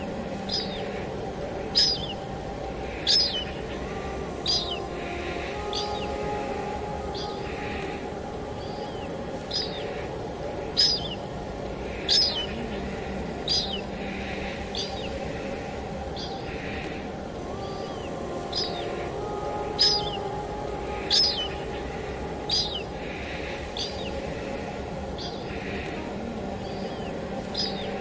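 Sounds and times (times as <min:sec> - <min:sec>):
rain falling: 0:00.0 - 0:28.0
songbird chirping: 0:00.0 - 0:28.0.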